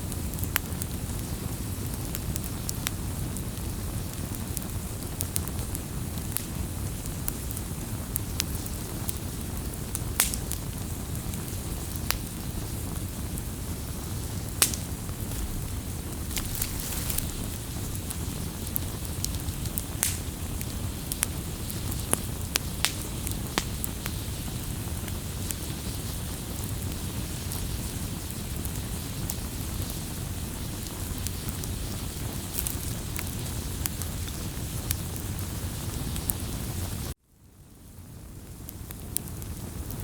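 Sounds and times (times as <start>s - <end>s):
campfire crackling and popping: 0.0s - 37.2s, 37.8s - 40.0s.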